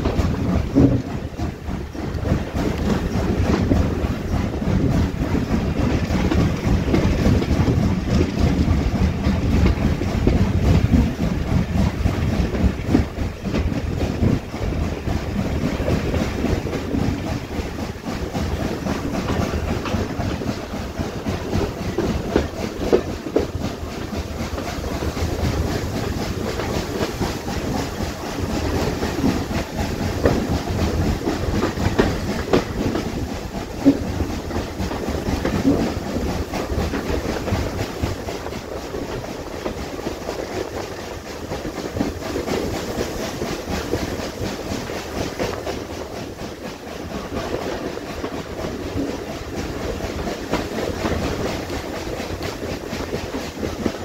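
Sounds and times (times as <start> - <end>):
train running rumble: 0.0 - 54.0
wheels clicking on rails: 0.0 - 54.0.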